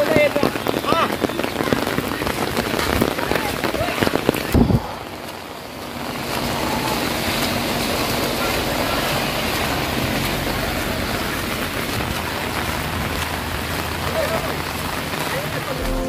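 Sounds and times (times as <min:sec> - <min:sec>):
rain falling on road: 0:00.0 - 0:16.0
car driving past on wet road: 0:01.3 - 0:16.0.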